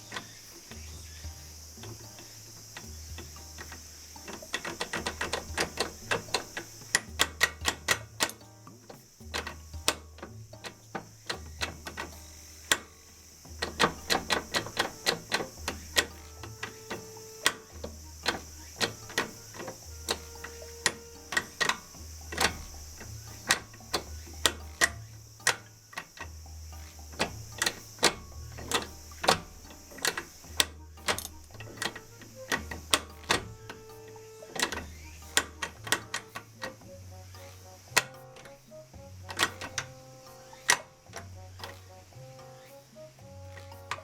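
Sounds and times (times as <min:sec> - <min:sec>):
sharp clicking percussion: 0:00.0 - 0:44.0.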